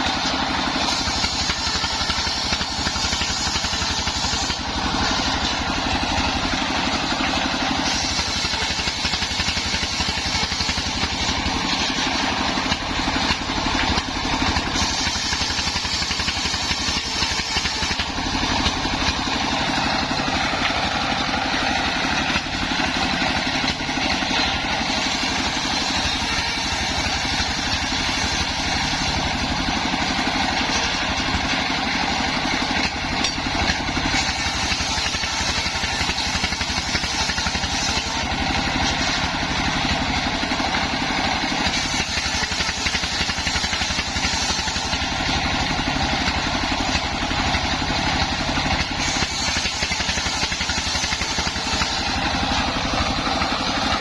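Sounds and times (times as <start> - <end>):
circular sawmill running: 0.0 - 54.0.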